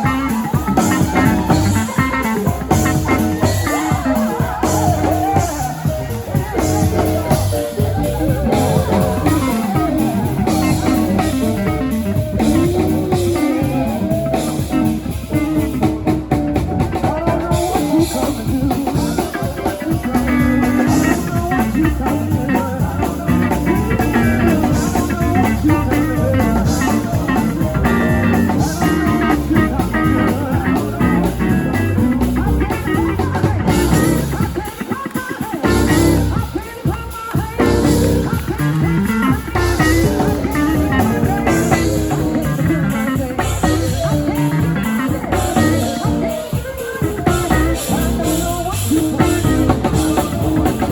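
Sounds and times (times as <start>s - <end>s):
bluesy rock music: 0.0s - 50.9s.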